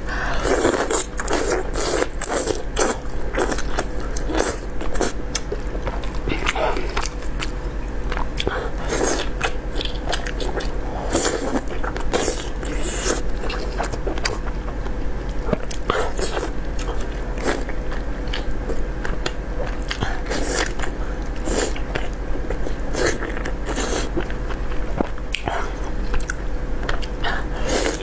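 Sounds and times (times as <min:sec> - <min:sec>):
person chewing wet smacks: 0:00.4 - 0:28.0.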